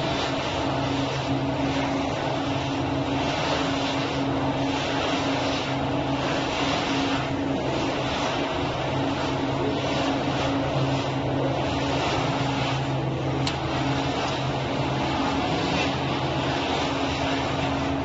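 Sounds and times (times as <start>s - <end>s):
machine motor humming: 0.0s - 18.0s.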